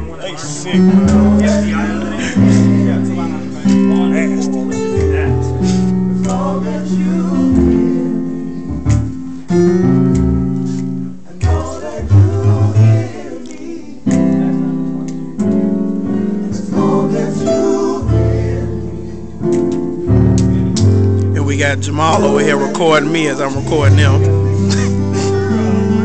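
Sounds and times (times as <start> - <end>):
deep bass notes: 0.0 - 13.2, 18.0 - 26.0
guitar: 0.0 - 26.0
keyboard chords: 0.0 - 26.0.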